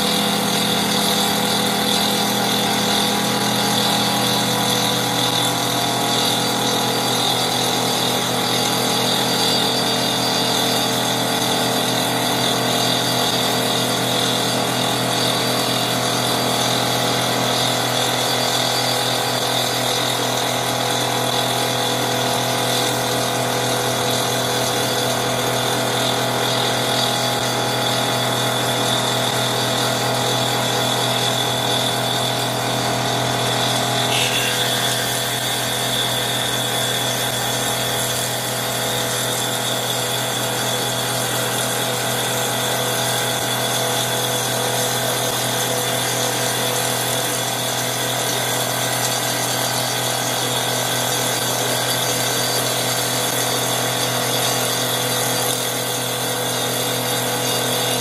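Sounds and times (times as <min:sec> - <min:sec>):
wood lathe saw blade cutting: 0:00.0 - 0:58.0.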